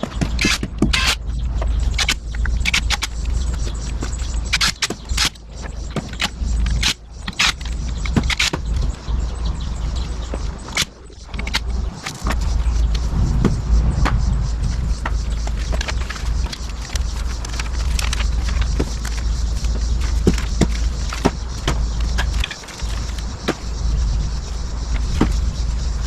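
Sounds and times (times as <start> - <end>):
steady low rumble: 0.8 - 26.0.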